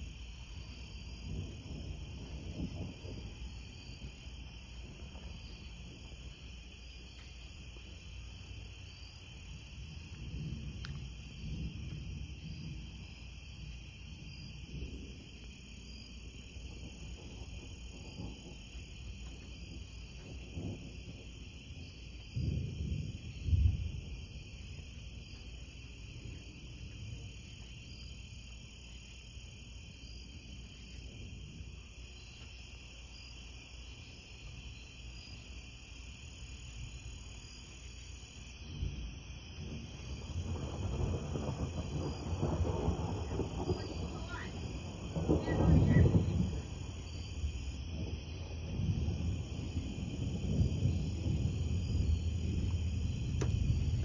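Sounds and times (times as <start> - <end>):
thunder rumbling: 0.0 - 32.2, 37.8 - 54.0
night insects chirring: 0.0 - 54.0.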